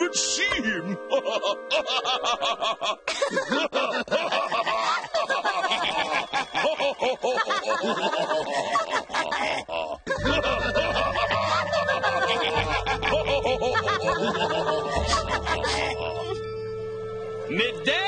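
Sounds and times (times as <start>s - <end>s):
man laughing mockingly: 1.1s - 16.4s.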